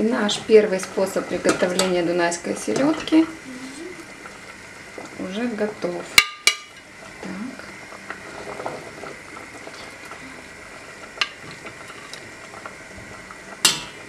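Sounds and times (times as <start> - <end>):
water bubbling in a pot: 0.0 - 14.0.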